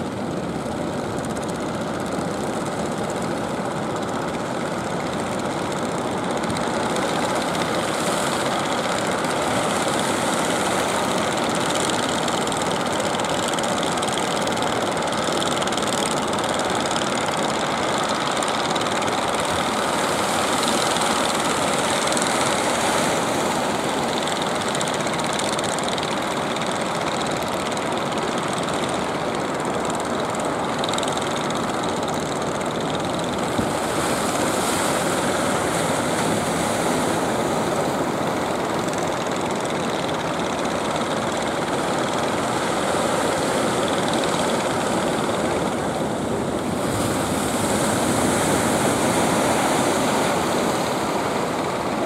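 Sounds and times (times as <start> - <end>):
boat engines droning: 0.0 - 52.0
surf and choppy water: 0.0 - 52.0.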